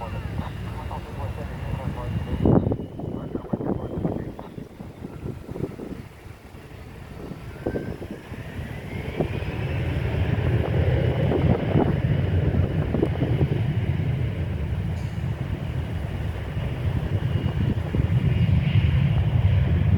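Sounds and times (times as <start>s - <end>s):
jet engine rumble: 0.0s - 19.9s.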